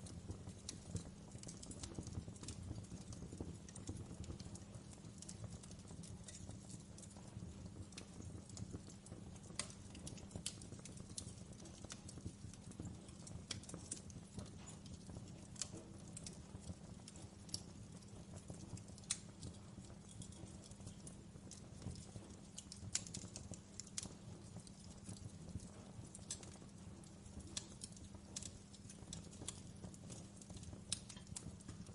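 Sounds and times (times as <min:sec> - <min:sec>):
fire popping: 0:00.0 - 0:31.9
low fire rumble: 0:00.0 - 0:31.9
wood fire crackling: 0:00.0 - 0:31.9.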